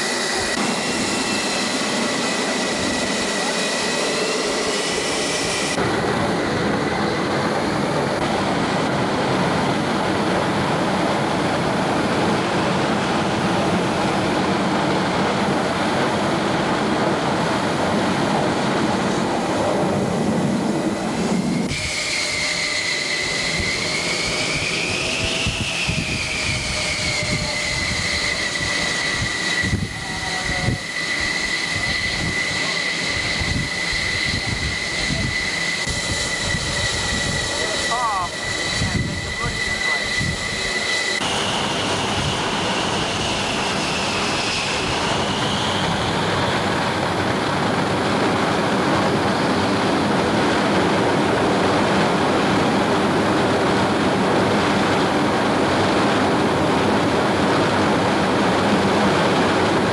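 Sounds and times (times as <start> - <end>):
high turbine whine: 0.0 - 59.9
jet engine roar: 0.0 - 59.9.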